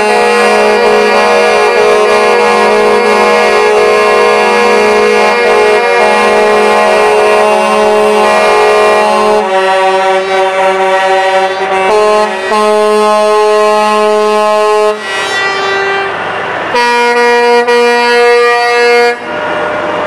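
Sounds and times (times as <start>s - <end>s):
horns blaring: 0.0s - 20.0s.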